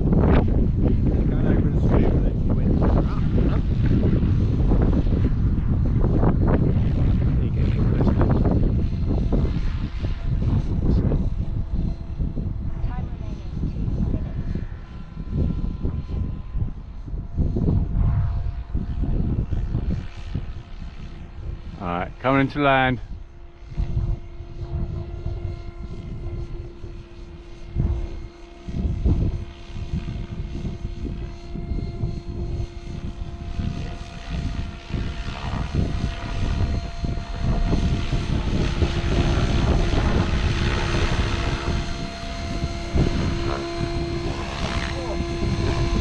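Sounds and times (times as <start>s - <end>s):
rc helicopter rotor whine: 0.0s - 46.0s
wind buffeting microphone: 0.0s - 46.0s.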